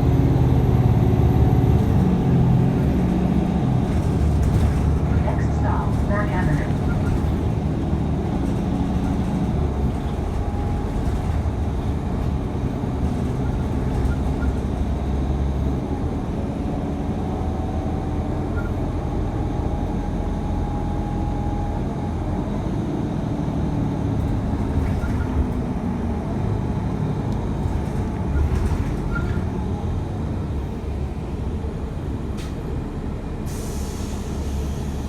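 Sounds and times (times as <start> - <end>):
bus cabin rumble: 0.0 - 35.0.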